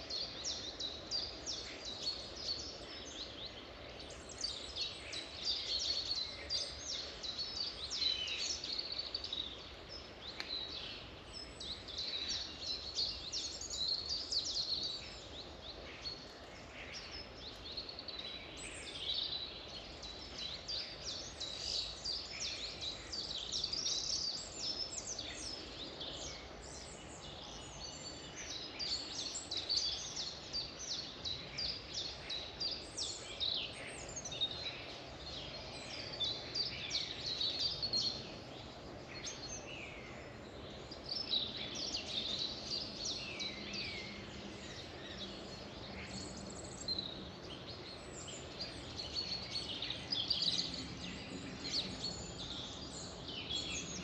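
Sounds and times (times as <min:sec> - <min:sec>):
low background hiss: 0:00.0 - 0:54.0
songbirds chirping and singing: 0:00.0 - 0:54.0.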